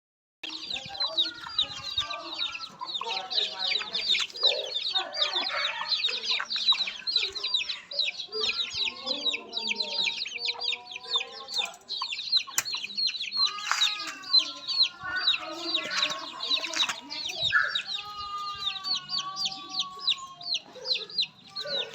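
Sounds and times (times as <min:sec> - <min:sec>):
chicks peeping: 0:00.4 - 0:21.9
hens clucking: 0:00.5 - 0:21.9.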